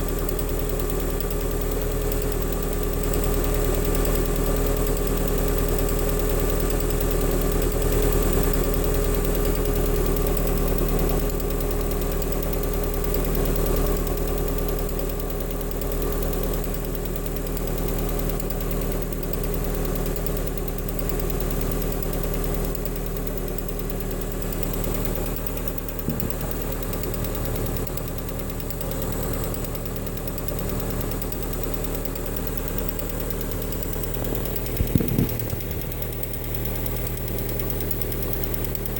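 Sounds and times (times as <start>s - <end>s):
car engine idling with knock: 0.0s - 38.9s.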